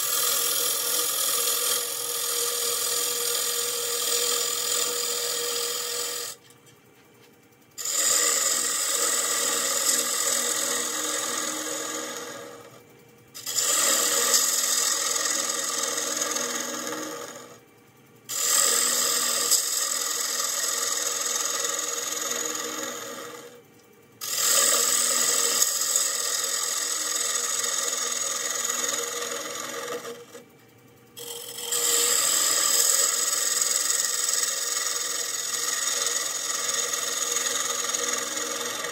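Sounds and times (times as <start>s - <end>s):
lathe tool scraping wood: 0.0s - 6.4s, 7.8s - 12.8s, 13.4s - 17.6s, 18.3s - 23.6s, 24.2s - 30.4s, 31.2s - 38.9s.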